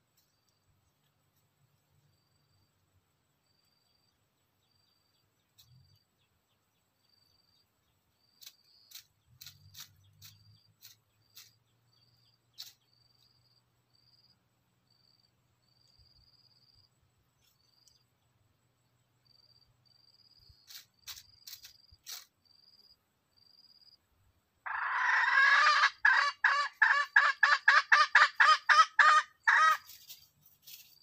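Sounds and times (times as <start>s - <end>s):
faint insect chirping: 0.0s - 31.0s.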